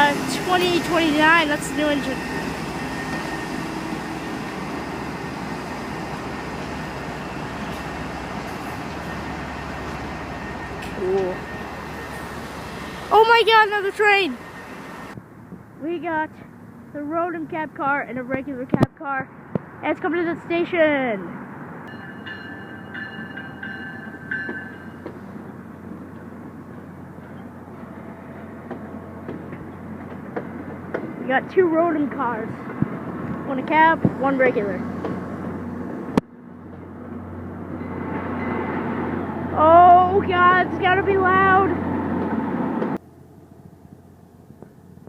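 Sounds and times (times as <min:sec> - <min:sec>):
train rumble: 0:00.0 - 0:18.7, 0:19.4 - 0:45.0
diesel locomotive engine: 0:00.0 - 0:45.0.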